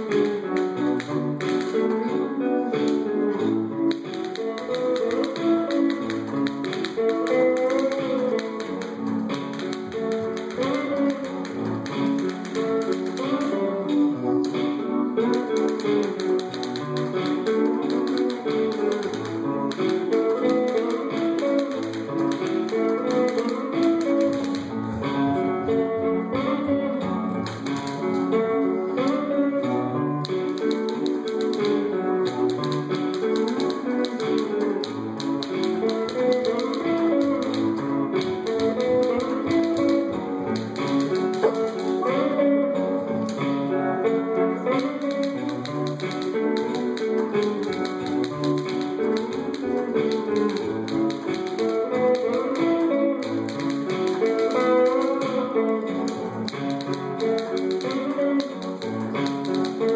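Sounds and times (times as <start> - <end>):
fast sharp clicks: 0.0 - 25.2, 27.4 - 42.2, 44.6 - 59.9
plucked string instrument music: 0.0 - 59.9.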